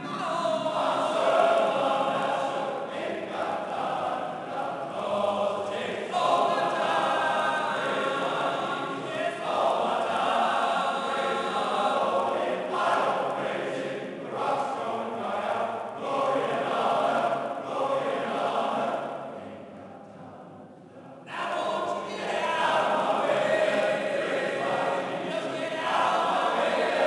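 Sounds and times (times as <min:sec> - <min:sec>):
person singing in church: 0:00.0 - 0:27.0.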